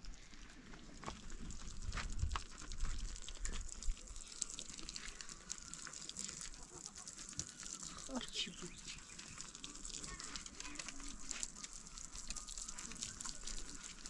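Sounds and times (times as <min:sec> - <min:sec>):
water pouring onto dirt ground: 0:00.0 - 0:14.0.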